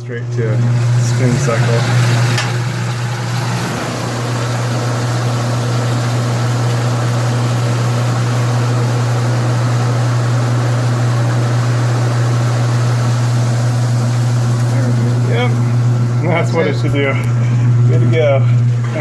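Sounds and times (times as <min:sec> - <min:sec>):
washing machine spin cycle hum: 0:00.0 - 0:19.0.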